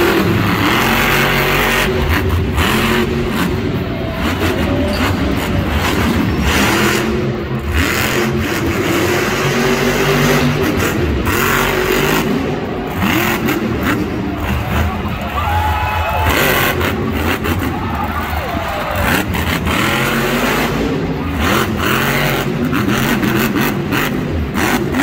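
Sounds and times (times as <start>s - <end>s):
truck engine revving hard: 0.0s - 25.0s.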